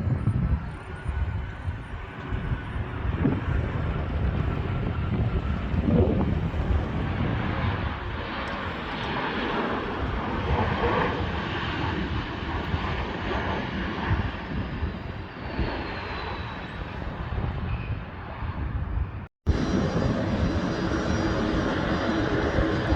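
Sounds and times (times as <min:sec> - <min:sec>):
aircraft engines rushing: 0:00.0 - 0:22.9.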